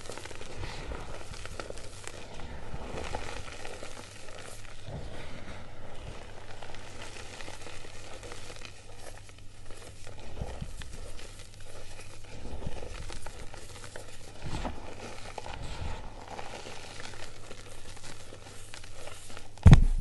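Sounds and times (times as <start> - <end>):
hands crumbling powdery chalk: 0.0 - 20.0.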